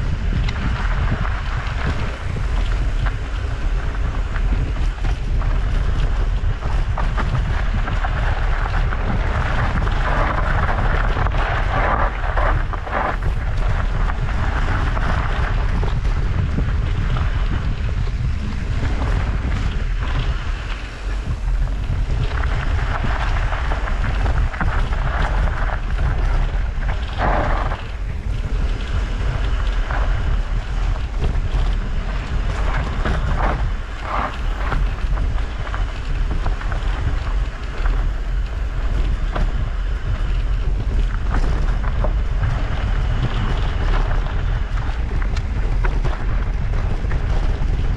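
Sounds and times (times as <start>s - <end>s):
tyres rumbling over dirt: 0.0s - 47.9s
wind buffeting microphone: 0.0s - 47.9s.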